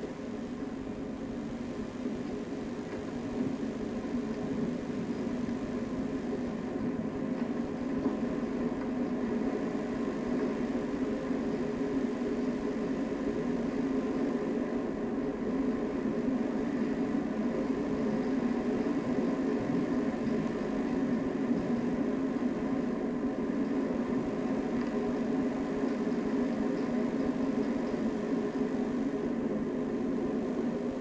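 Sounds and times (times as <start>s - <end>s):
faint hum tones: 0.0s - 31.0s
underground machinery drone: 0.0s - 31.0s.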